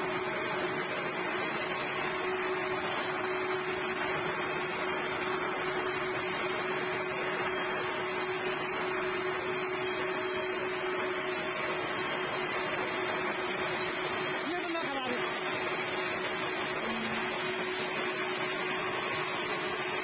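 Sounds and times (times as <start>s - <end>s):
wire drawing machine whirring: 0.0s - 20.0s.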